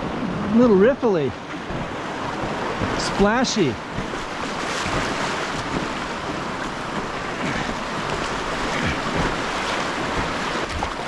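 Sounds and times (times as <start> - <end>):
river rushing and splashing: 0.0 - 11.0
wind buffeting microphone: 1.4 - 11.0.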